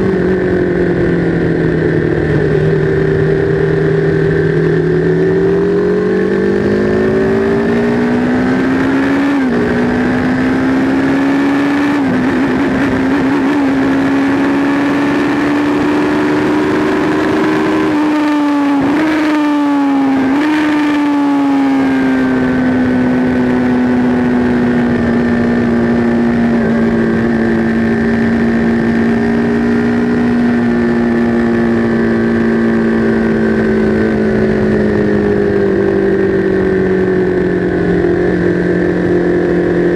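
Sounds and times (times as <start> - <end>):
motorcycle engine accelerating hard: 0.0 - 39.9.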